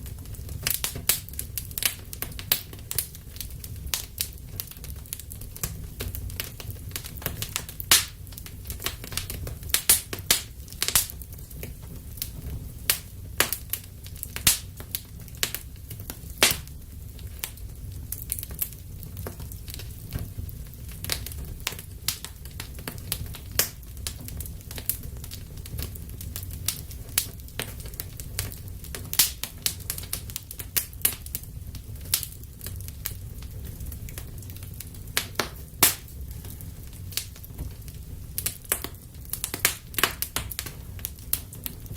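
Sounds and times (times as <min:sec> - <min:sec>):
low rumble of flames: 0:00.0 - 0:41.9
wood fire crackling and popping: 0:00.0 - 0:41.9.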